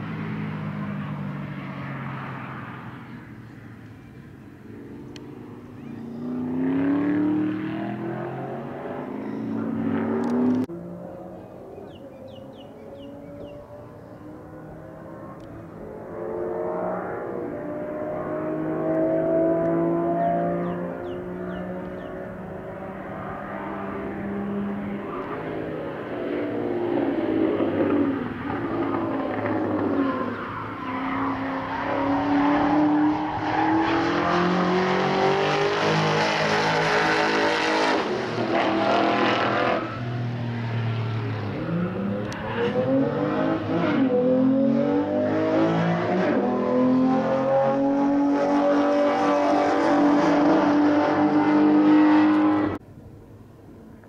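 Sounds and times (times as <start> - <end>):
car engine accelerating: 4.7 - 52.8.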